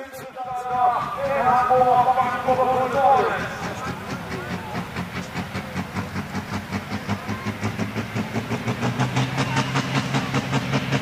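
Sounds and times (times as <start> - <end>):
pulsing diesel engine under load: 0.0 - 11.0.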